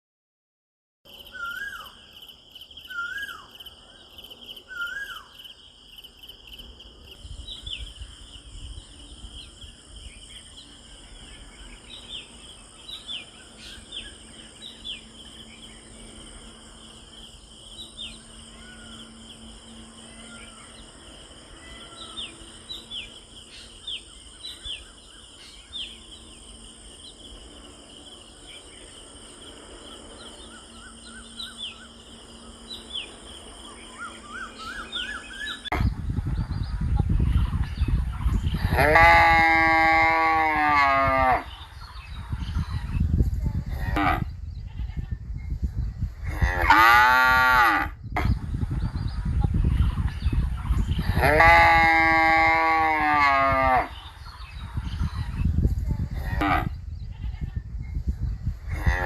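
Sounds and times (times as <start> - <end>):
insects chirping chorus: 1.1 - 59.0
birds calling: 1.2 - 2.2, 7.3 - 59.0.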